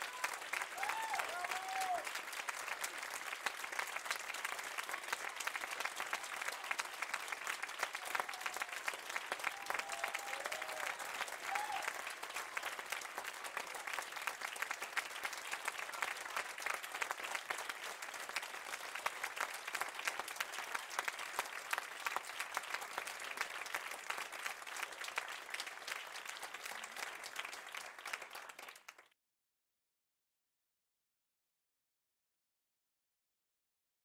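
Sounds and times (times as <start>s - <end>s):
audience applauding: 0.0s - 29.2s.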